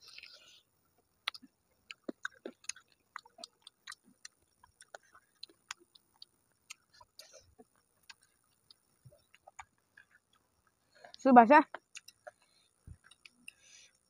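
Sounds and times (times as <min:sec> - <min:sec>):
chewing clicks and smacks: 0:01.2 - 0:14.0.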